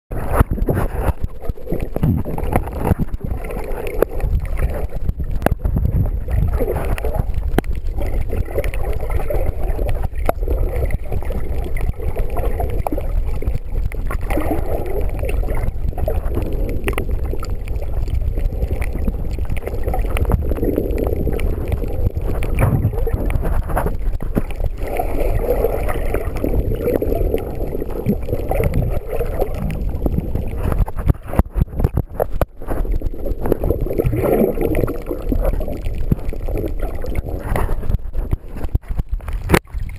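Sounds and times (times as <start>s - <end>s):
sharp underwater clicks: 0.1s - 39.9s
underwater low rumble: 0.1s - 39.9s
water gurgling: 0.1s - 39.9s.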